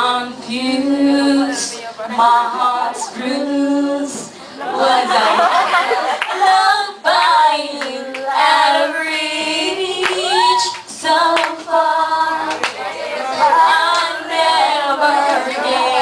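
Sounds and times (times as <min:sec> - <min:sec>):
women singing into microphones: 0:00.0 - 0:16.0.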